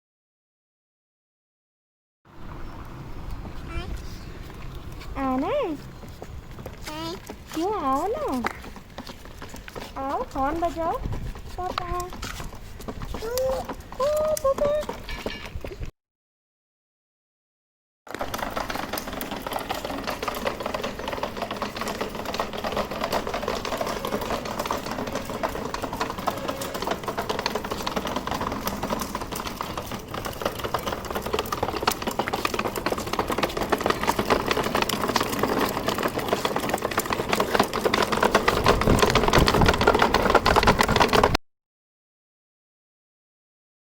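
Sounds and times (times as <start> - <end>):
toy car rattle and whir: 3.6 - 15.7, 18.1 - 41.4.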